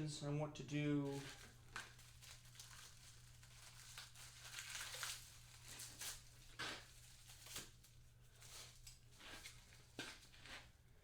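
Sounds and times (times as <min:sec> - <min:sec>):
paper crinkling and rustling: 0:01.0 - 0:10.8.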